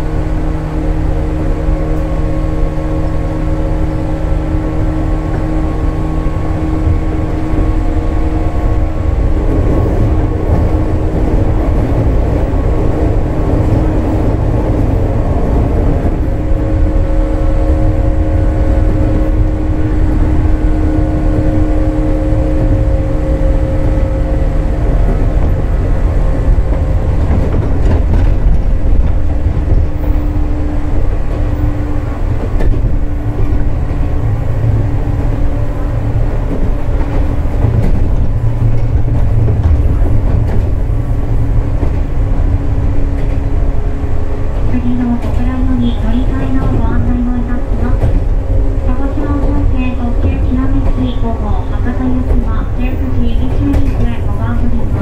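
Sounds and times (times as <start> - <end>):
traction motor hum: 0.0 - 55.0
train wheels rumbling on rail: 0.0 - 55.0.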